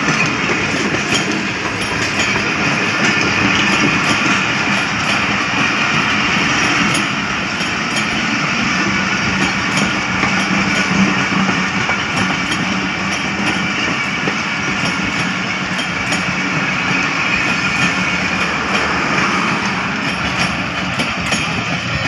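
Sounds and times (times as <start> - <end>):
light rail clicks: 0.0 - 22.0
train wheels rumbling on rails: 0.0 - 22.0.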